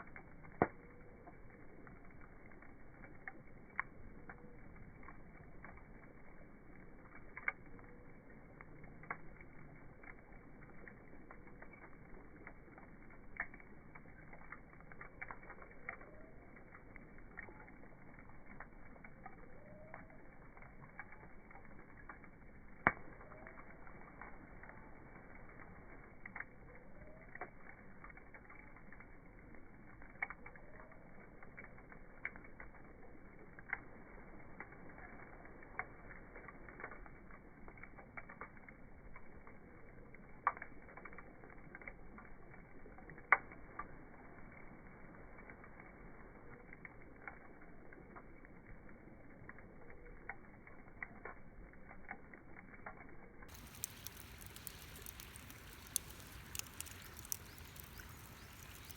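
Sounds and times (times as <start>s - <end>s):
bonfire crackling and popping: 0.0s - 58.9s.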